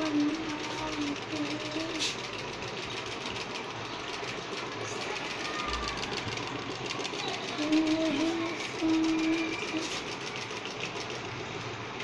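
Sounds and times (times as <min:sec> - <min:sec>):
engine mechanical clatter: 0:00.0 - 0:12.0.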